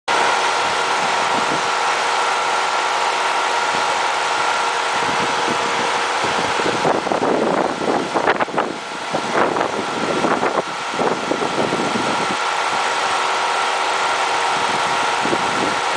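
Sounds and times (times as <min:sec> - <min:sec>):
air conditioner humming with whine: 0:00.1 - 0:15.9.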